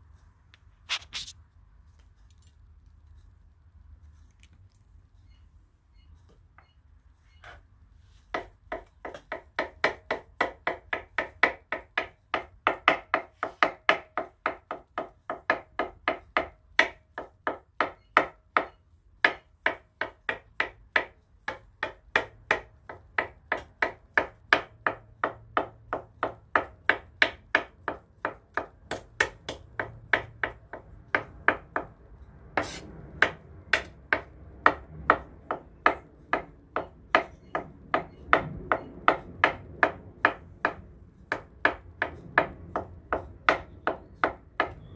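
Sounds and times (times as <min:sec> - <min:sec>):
knife chopping on wooden board: 0:08.3 - 0:31.9, 0:32.6 - 0:44.9.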